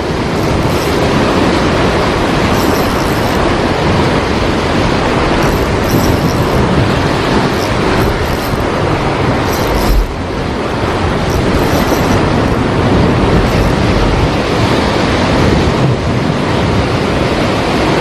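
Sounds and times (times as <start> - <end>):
heavy surf breaking: 0.0 - 18.0.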